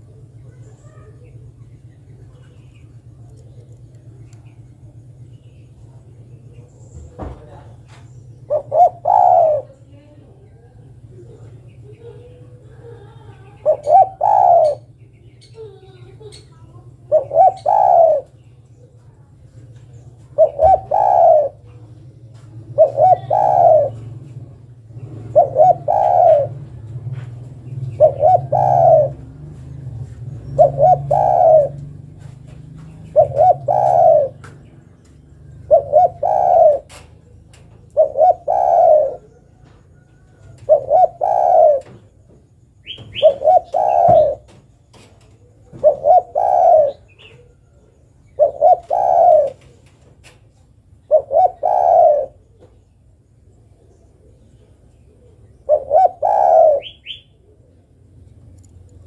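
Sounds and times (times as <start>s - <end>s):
dove cooing: 7.2s - 52.8s, 53.5s - 59.0s.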